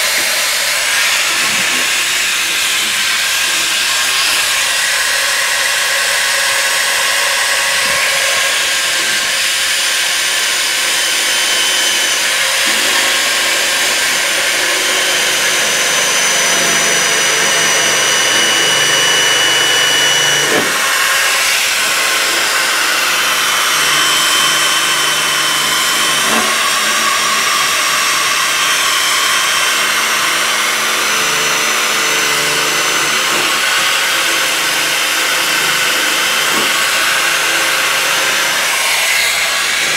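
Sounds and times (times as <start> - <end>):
rotary tool grinding rusty steel: 0.0 - 39.9.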